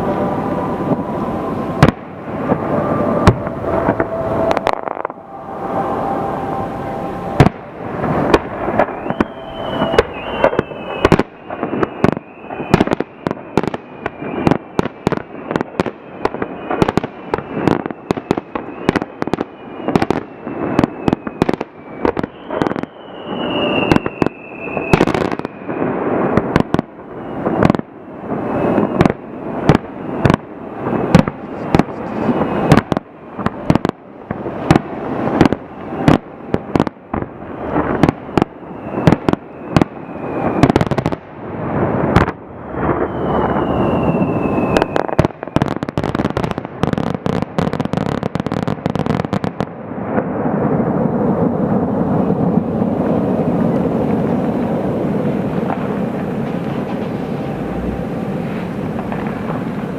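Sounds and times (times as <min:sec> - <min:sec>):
fireworks whistling: 0:00.0 - 0:49.6, 0:51.4 - 0:59.9
fireworks bangs: 0:00.0 - 0:59.9.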